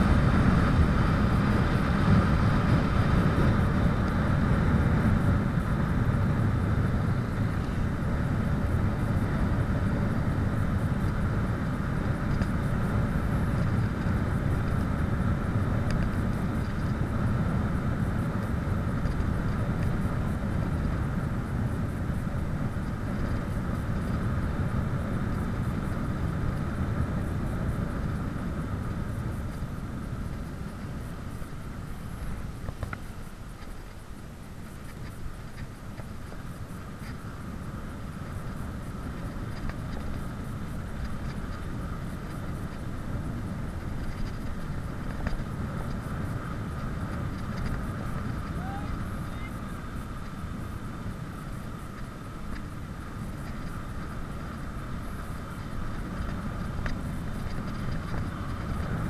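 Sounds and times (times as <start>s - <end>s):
tyres rolling on road: 0.0s - 59.0s
wind rushing over microphone: 0.0s - 59.0s.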